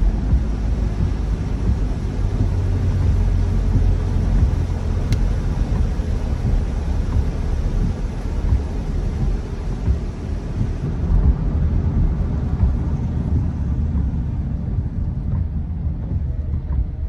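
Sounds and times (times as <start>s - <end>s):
car driving road noise: 0.0s - 17.0s.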